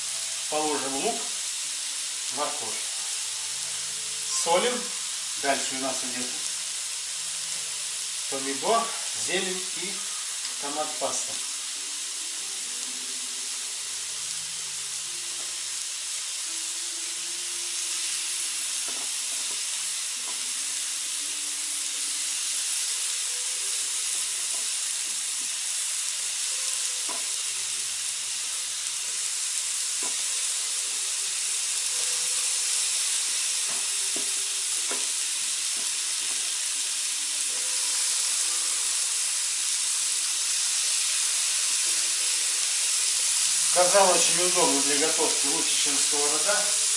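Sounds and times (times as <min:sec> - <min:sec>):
meat frying sizzle: 0:00.0 - 0:46.9.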